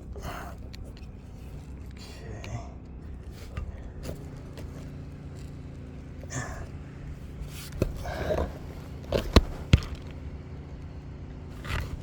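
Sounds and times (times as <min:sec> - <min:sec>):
scraping and rustling on roof shingles: 0:00.0 - 0:12.0.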